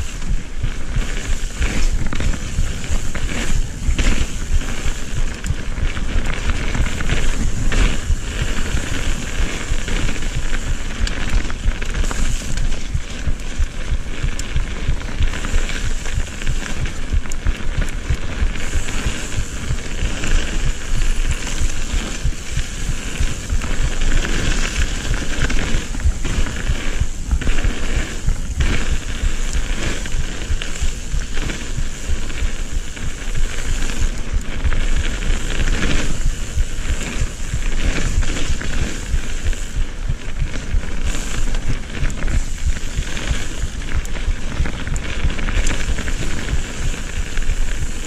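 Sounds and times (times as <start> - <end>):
bike rattling over bumps: 0.0 - 48.0
bike tyres crackling on dirt: 0.0 - 48.0
wind rumble on microphone: 0.0 - 48.0.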